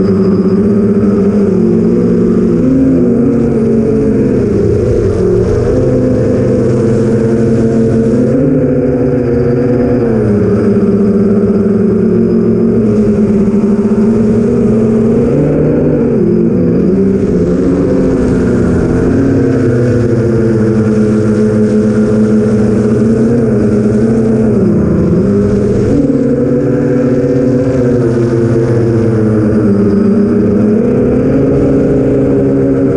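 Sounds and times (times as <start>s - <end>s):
drone motors buzzing: 0.0s - 32.9s.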